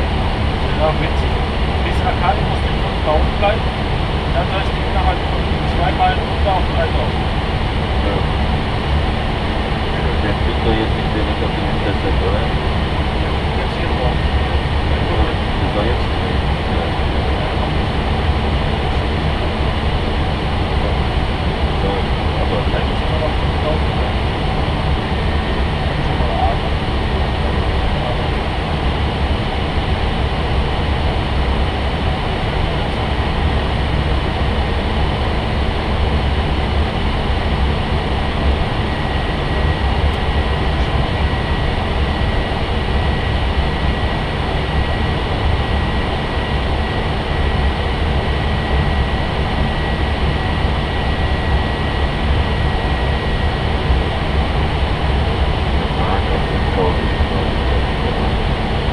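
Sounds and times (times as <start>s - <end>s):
airplane cockpit noise: 0.0s - 58.9s.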